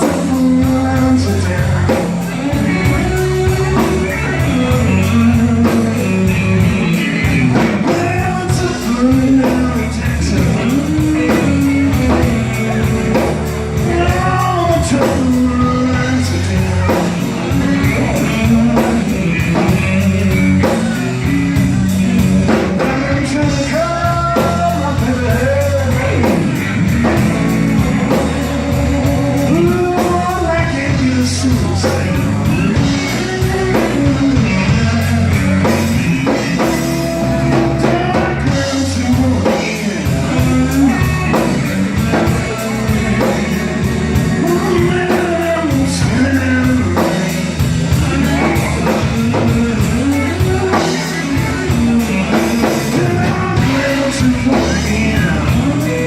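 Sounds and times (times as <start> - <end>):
bass guitar: 0.0 - 56.0
drums: 0.0 - 56.0
electric guitar bending notes: 0.0 - 56.0
person singing: 0.0 - 56.0.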